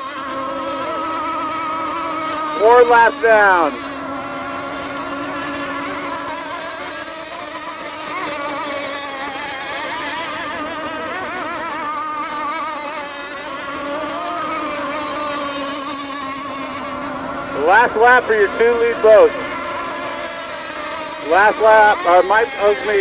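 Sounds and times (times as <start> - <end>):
small boat engines revving high: 0.0 - 23.0.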